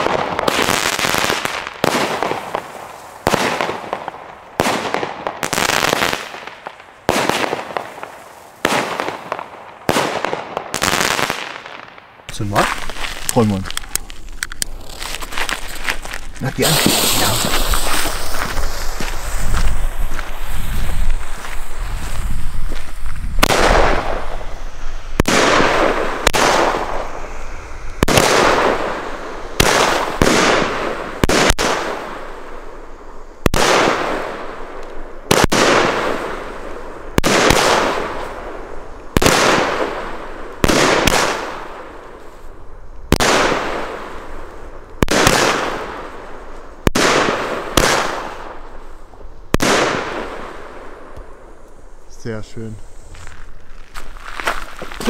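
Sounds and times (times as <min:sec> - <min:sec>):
fireworks bangs: 0:00.0 - 0:42.5, 0:43.1 - 0:55.0
fireworks crackle: 0:00.0 - 0:55.0.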